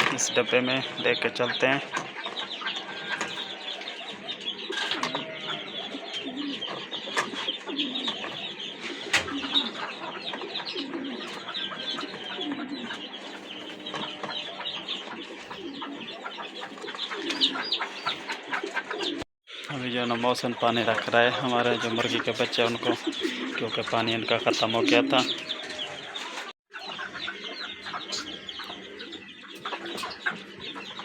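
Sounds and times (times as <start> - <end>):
low cooing or clucking: 1.8 - 19.2, 21.8 - 31.0.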